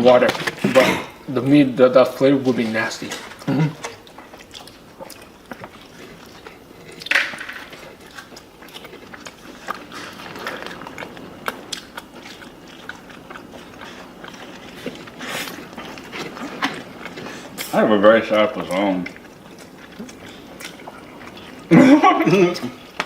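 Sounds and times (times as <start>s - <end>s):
chewing and biting food: 1.9s - 23.0s.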